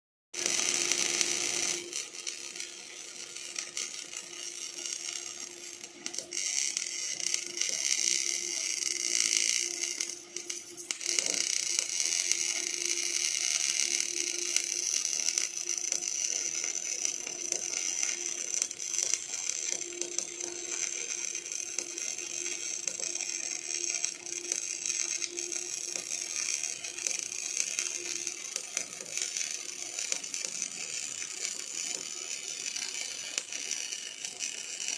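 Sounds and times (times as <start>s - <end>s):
welding arc crackling hiss: 0.4s - 34.9s.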